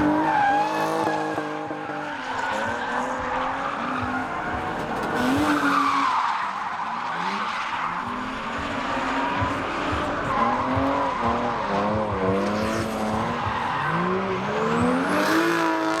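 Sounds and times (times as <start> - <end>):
car engine revving hard: 0.0 - 16.0
tyres skidding and squealing: 0.0 - 16.0.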